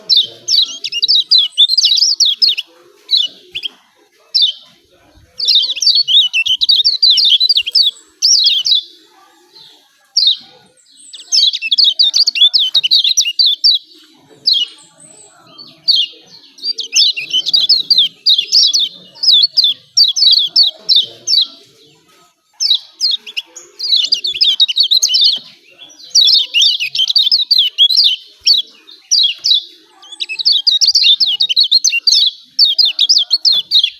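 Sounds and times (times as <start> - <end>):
bird chattering song: 0.0 - 33.9.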